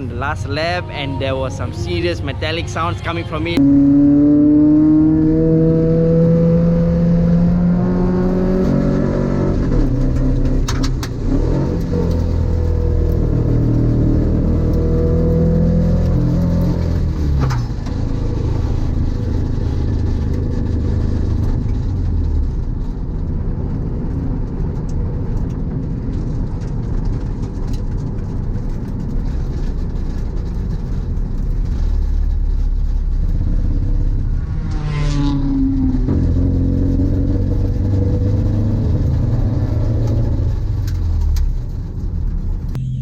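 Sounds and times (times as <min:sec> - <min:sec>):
car engine revving: 0:00.0 - 0:23.0, 0:28.8 - 0:43.0.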